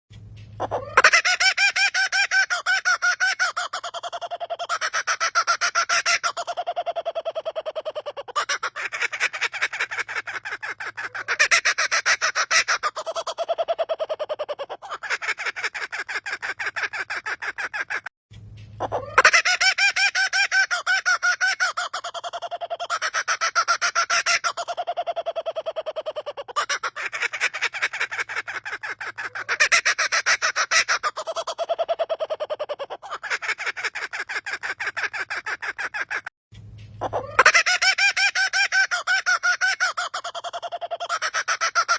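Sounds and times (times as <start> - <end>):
bird laughing call: 0.6 - 18.1, 18.8 - 36.3, 37.0 - 41.9.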